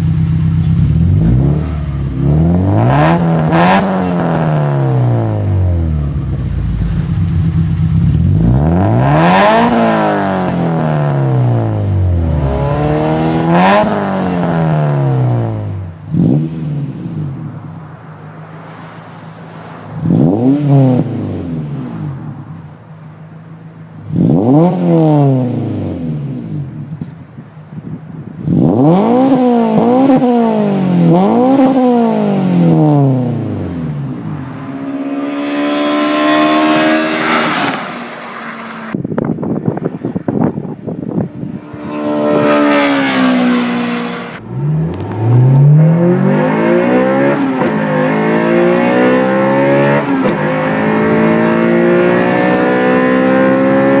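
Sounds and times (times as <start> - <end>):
car engine revving: 0.0 - 27.1, 28.4 - 54.0.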